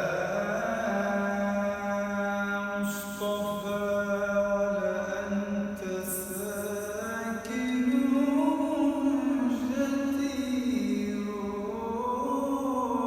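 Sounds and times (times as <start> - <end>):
man chanting a praise song: 0.0 - 13.0.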